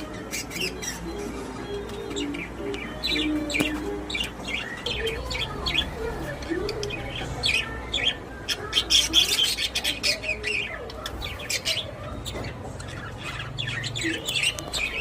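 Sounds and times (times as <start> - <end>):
budgerigars chirping and chattering: 0.0 - 15.0.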